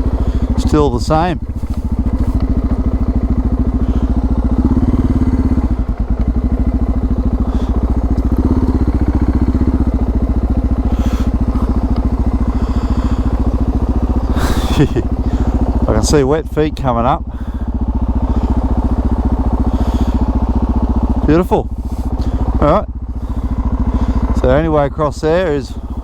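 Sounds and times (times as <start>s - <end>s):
motorcycle engine thumping at low revs: 0.0s - 26.0s.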